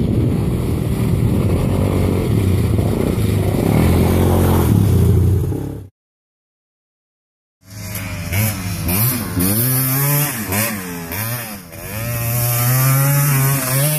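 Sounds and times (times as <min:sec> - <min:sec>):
atv engine revving: 0:00.0 - 0:05.9, 0:07.6 - 0:13.9.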